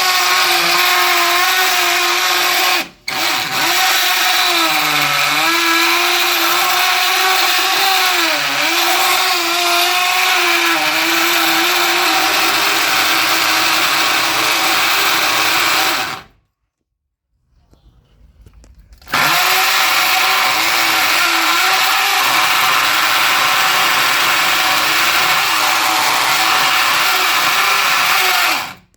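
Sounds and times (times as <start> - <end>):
electric drill boring into concrete: 0.0 - 16.4, 19.1 - 28.9.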